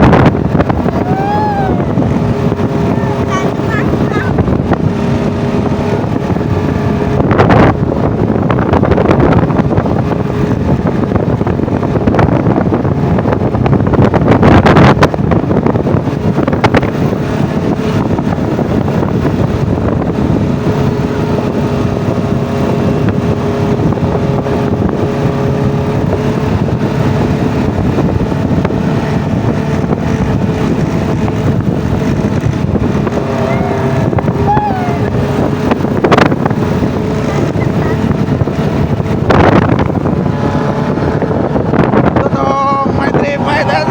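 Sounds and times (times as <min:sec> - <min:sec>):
off-road vehicle engine running: 0:00.0 - 0:43.9
wind buffeting microphone: 0:00.0 - 0:43.9.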